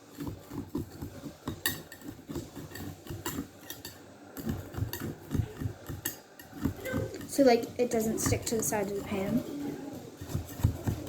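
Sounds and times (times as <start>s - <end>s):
utensil scraping cake pan: 0.0s - 11.0s.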